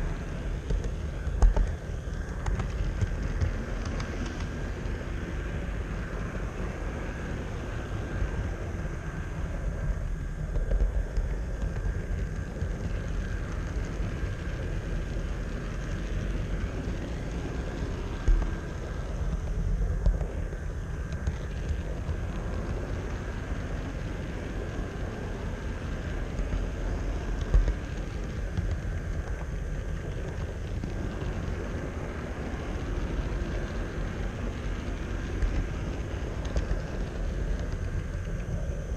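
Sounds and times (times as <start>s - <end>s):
faint steady whine: 0.0s - 38.9s
model train rumbling on track: 0.0s - 38.9s.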